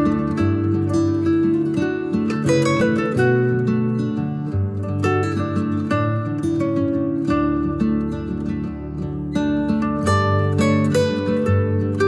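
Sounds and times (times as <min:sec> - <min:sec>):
plucked melody: 0:00.0 - 0:12.0.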